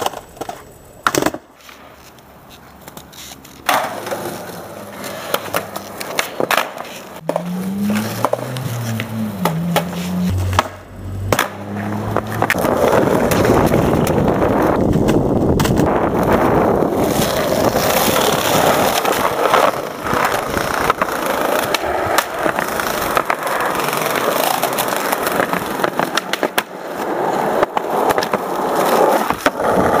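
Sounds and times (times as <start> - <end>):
skateboard clacking on ground: 0.0 - 30.0
skateboard wheels rolling on asphalt: 0.0 - 30.0.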